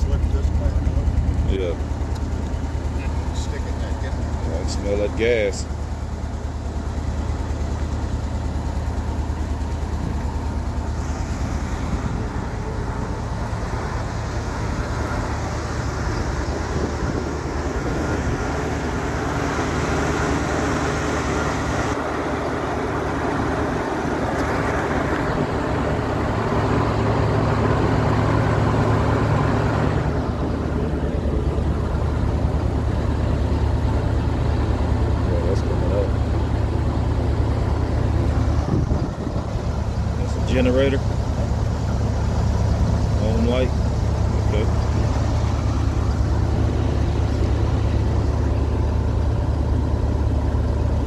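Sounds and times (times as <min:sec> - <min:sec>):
motorhome engine idling: 0:00.0 - 0:51.0.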